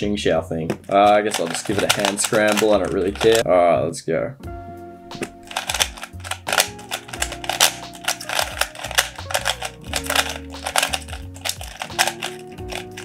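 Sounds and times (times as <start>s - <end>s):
background music: 0.0s - 13.0s
puzzle cube plastic clacking: 0.7s - 3.4s, 5.2s - 13.0s.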